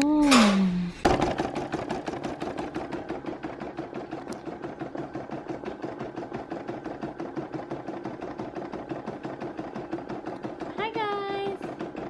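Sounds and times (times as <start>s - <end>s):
small machine running: 0.0s - 12.0s.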